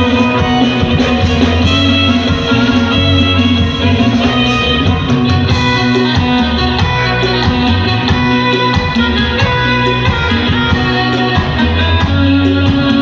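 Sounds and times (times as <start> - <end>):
live band playing amplified music: 0.0 - 13.0.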